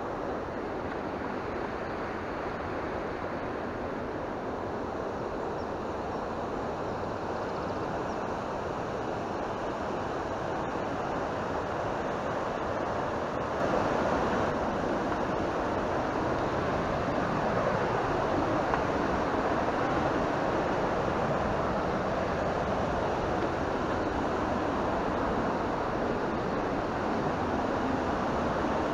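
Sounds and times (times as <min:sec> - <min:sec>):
stream rushing over rocks: 0:00.0 - 0:28.9.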